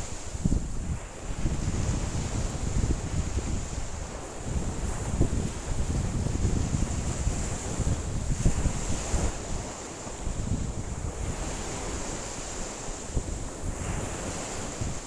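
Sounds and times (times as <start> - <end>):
waves washing onto shore: 0.0 - 15.0
wind buffeting microphone: 0.0 - 15.0.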